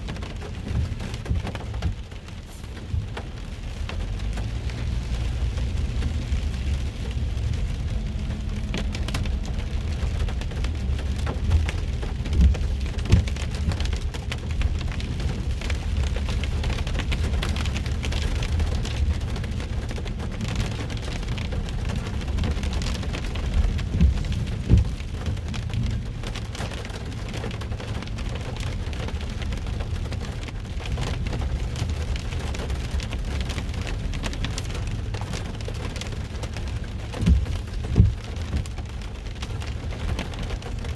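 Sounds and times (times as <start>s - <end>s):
heavy rain on a car roof: 0.0s - 40.9s
moving car rumble: 0.0s - 40.9s.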